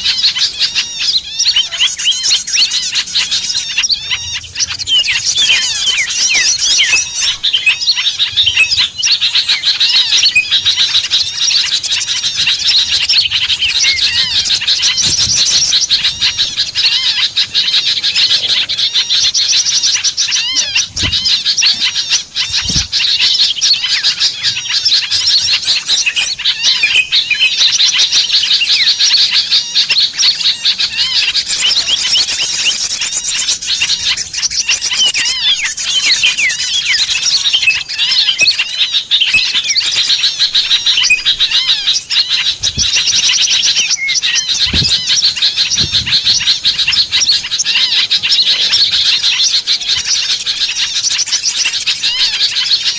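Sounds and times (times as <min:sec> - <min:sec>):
small birds chirping chorus: 0:00.0 - 0:52.9.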